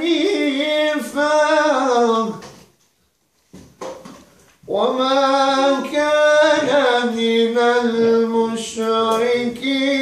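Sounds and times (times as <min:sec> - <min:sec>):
man reciting melodically: 0:00.0 - 0:02.8, 0:04.3 - 0:10.0.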